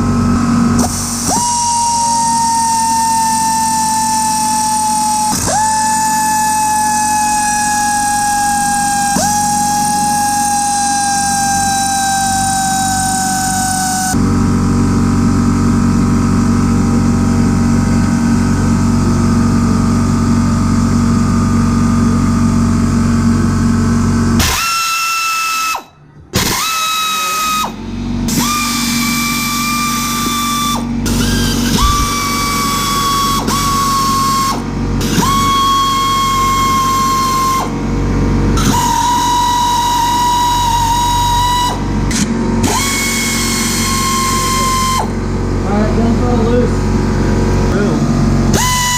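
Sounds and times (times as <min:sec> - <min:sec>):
electric power tool whining: 0:00.0 - 0:48.9
low mechanical hum: 0:00.0 - 0:48.9.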